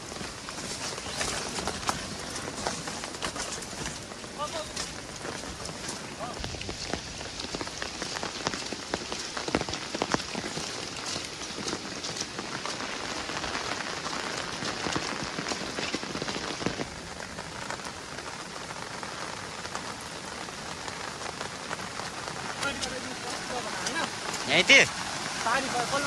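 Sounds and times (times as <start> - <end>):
raindrops spattering on surfaces: 0.0 - 26.0
steady rain falling: 0.0 - 26.0.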